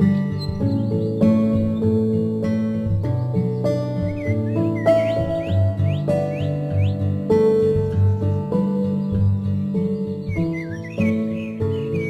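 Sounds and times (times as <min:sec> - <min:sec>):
plucked guitar: 0:00.0 - 0:12.0.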